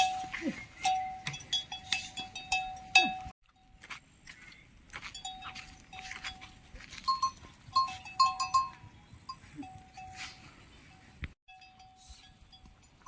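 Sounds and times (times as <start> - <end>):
livestock bells clanking: 0.0 - 3.9, 5.1 - 13.0.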